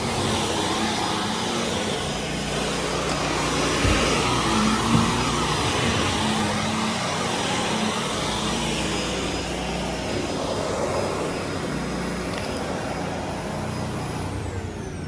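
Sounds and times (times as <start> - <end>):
vacuum cleaner running over carpet: 0.0 - 15.0.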